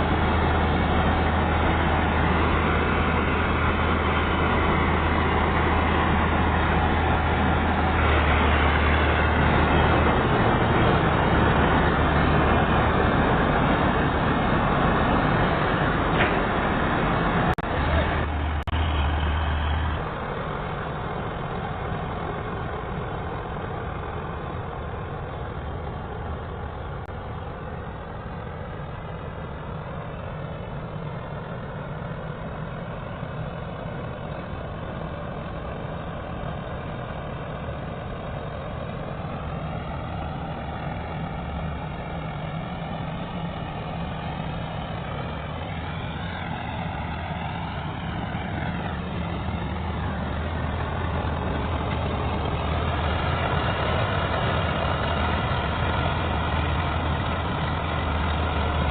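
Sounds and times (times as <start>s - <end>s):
combine harvester running: 0.0s - 58.9s
loud low droning: 0.0s - 58.9s.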